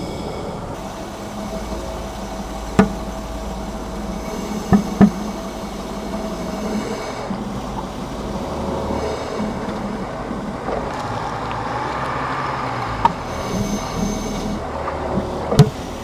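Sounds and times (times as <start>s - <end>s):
road noise inside vehicle: 0.0s - 16.0s
suspension knocks and clunks: 1.6s - 12.2s, 12.8s - 16.0s.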